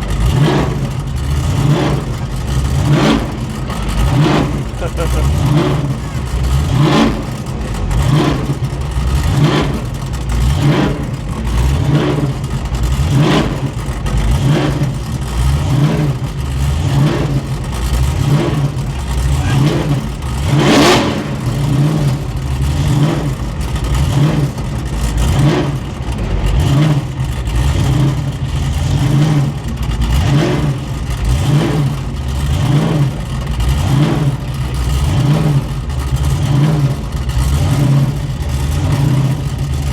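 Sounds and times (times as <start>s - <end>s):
car engine surging: 0.0s - 39.9s.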